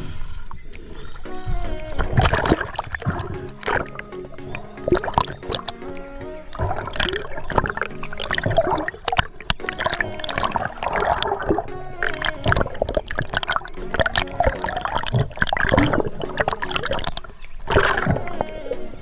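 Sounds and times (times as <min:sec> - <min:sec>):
background music: 0:00.0 - 0:19.0
sharp underwater clicks and crackles: 0:00.4 - 0:19.0
water gurgling and bubbling: 0:02.0 - 0:19.0.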